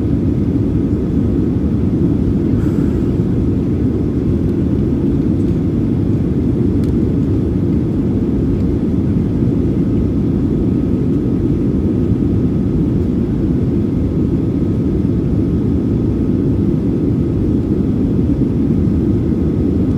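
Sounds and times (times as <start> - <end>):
airplane engines running: 0.0 - 19.9.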